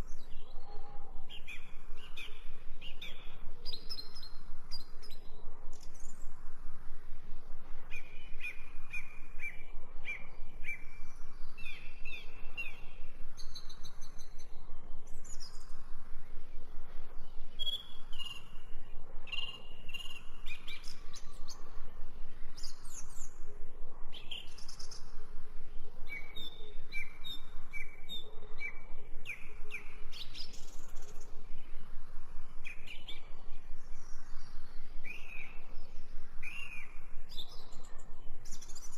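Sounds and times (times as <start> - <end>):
songbirds chirping and singing: 0.0 - 6.4, 7.7 - 38.9.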